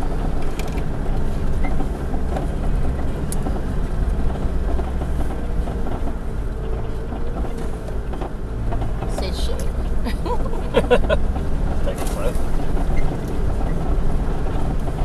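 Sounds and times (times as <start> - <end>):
engine drone under load: 0.0 - 15.0.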